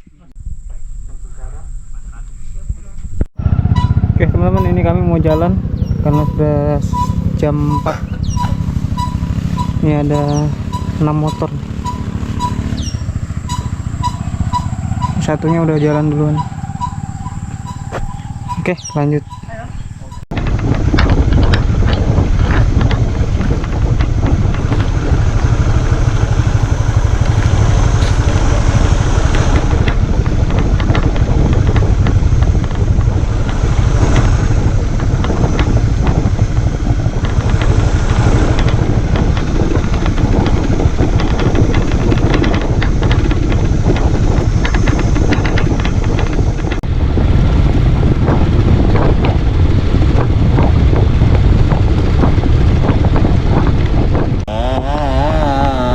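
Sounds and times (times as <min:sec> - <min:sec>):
motorcycle running: 0:00.0 - 0:55.9
wind noise on microphone: 0:00.0 - 0:55.9
knocks and rattles: 0:03.8 - 0:55.9.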